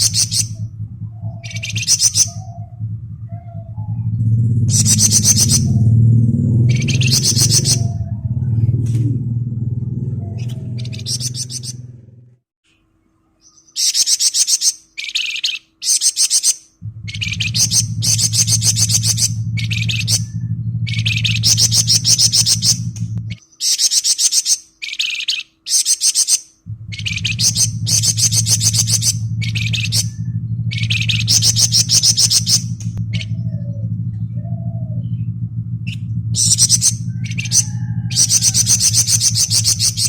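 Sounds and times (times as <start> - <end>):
bird singing rapid rattling trills: 0.0 - 8.6, 9.2 - 12.0, 12.8 - 40.0
low steady hum: 0.0 - 13.8, 16.6 - 23.6, 26.5 - 40.0.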